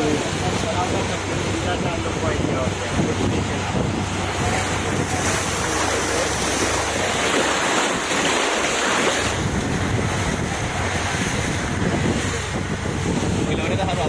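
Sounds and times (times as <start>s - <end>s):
sea surf washing: 0.0s - 14.0s
wind buffeting microphone: 0.0s - 14.0s.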